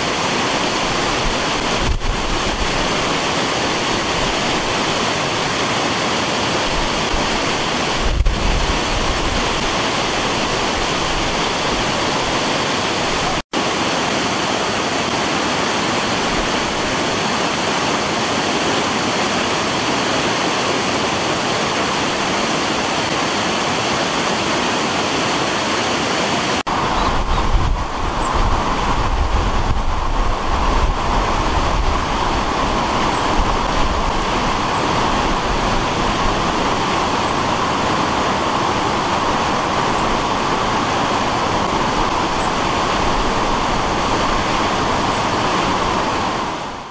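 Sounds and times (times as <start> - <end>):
floodwater rushing through grille: 0.0 - 46.9.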